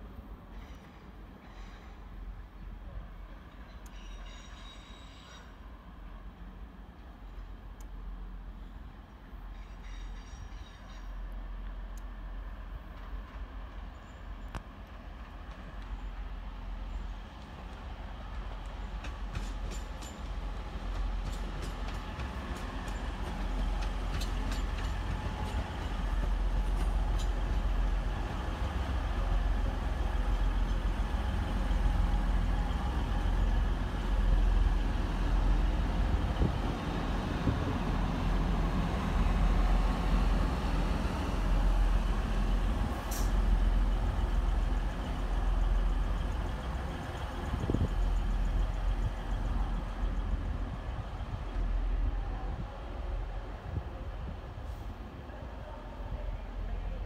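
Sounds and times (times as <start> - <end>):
train rumble of engine and wheels: 0.0 - 57.0.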